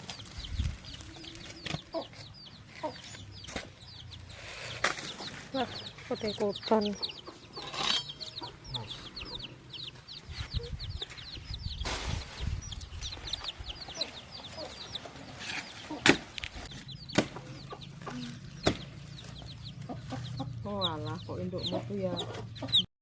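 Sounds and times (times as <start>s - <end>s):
young birds peeping: 0.0s - 22.9s.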